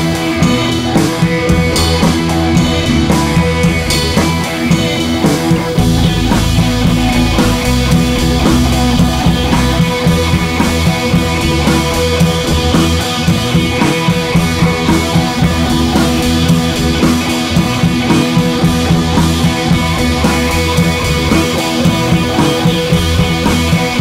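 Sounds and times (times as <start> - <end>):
rock music with drums and guitar: 0.0 - 24.0.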